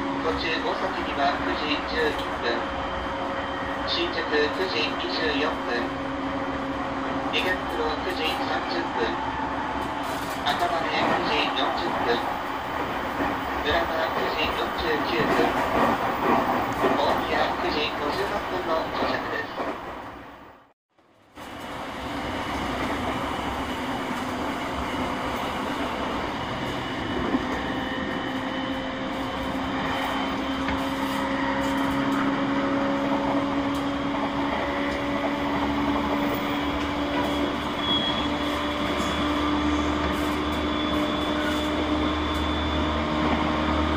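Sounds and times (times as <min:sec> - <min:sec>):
electric train rumbling: 0:00.0 - 0:43.9.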